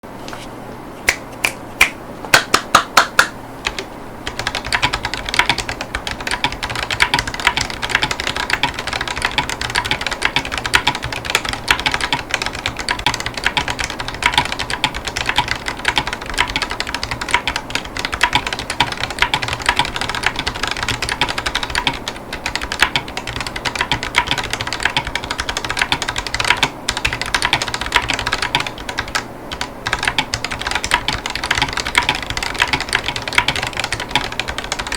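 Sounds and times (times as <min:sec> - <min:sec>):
typing on mechanical keyboard: 0:03.0 - 0:34.9.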